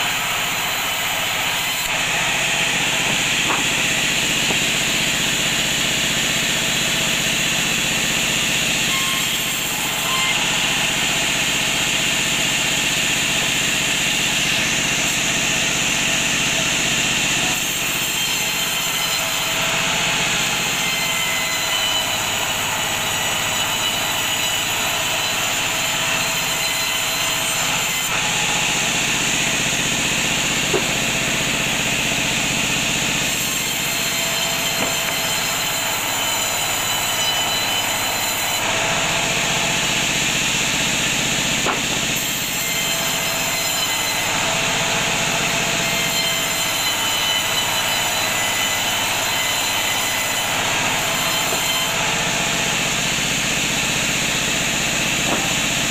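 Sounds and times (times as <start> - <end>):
bandsaw whining: 0.0 - 55.9
saw blade rasping through log: 0.0 - 55.9.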